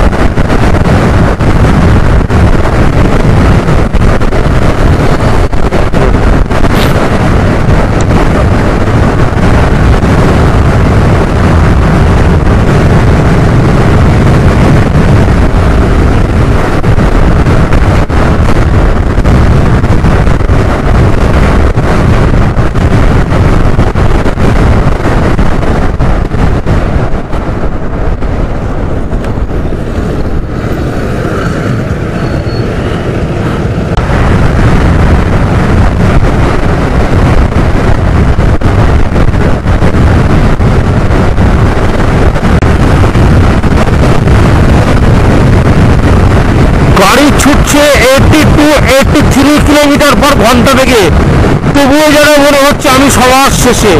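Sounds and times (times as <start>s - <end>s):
road and engine noise: 0.0s - 53.9s
wind rushing over microphone: 0.0s - 53.9s.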